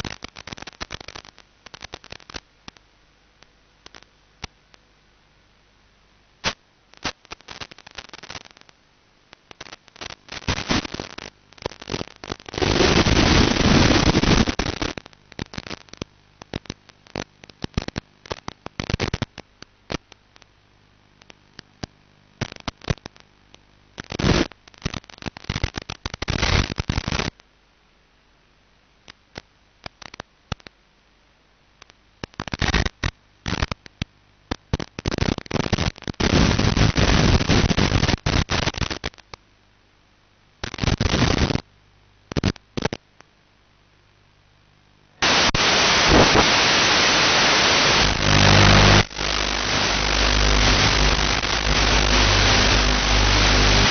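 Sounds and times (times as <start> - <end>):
crackling radio static: 0.0 - 53.9.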